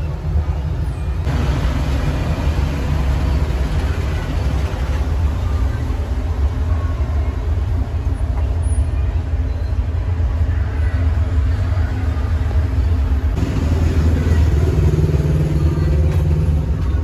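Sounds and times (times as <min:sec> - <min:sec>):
street traffic rumble: 0:00.0 - 0:17.0
faint voices: 0:02.8 - 0:17.0.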